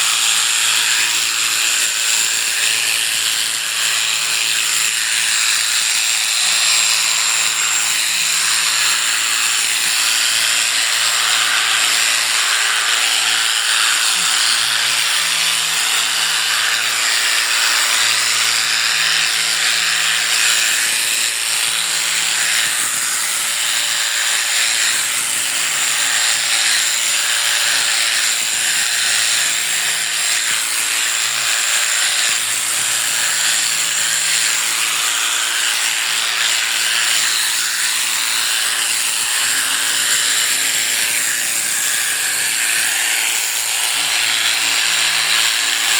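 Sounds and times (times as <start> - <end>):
electric shearing clippers running: 0.0 - 45.9.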